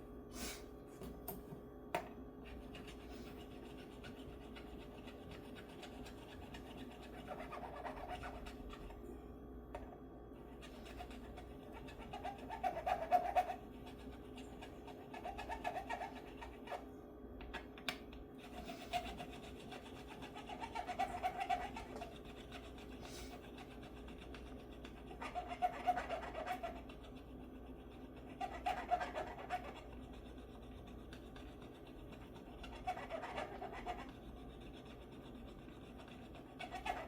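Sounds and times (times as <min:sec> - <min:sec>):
metal file rasping on frets: 0:02.5 - 0:09.0, 0:10.6 - 0:16.8, 0:18.4 - 0:37.0.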